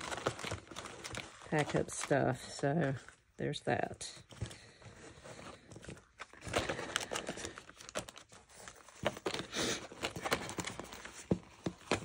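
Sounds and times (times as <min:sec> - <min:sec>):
packages rustling and crinkling: 0:00.0 - 0:12.0.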